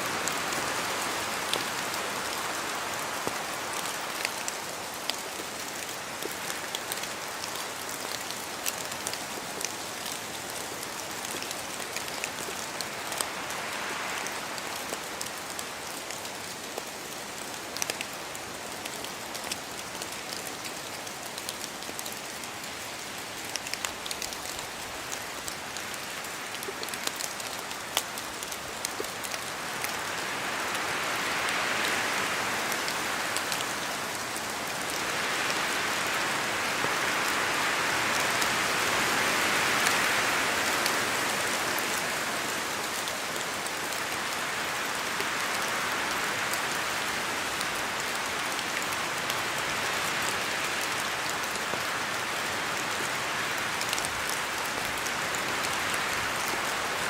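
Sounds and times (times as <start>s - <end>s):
rain patter: 0.0s - 57.0s
wind through trees: 0.0s - 57.0s.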